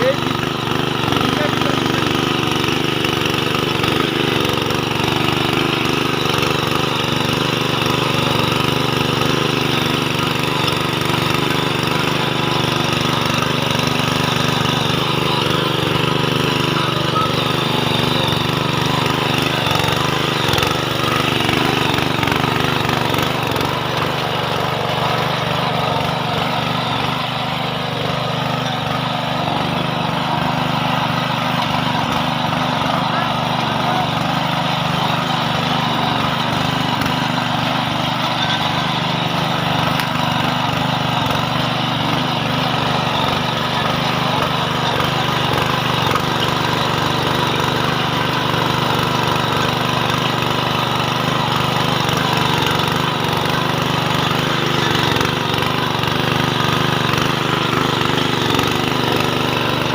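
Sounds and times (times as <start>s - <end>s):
power tiller engine running: 0.0s - 59.9s.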